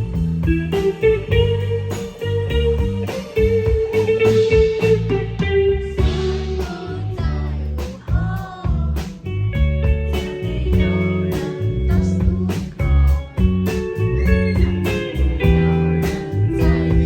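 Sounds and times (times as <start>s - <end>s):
bass line: 0.0s - 17.0s
steady drum beat: 0.0s - 17.0s.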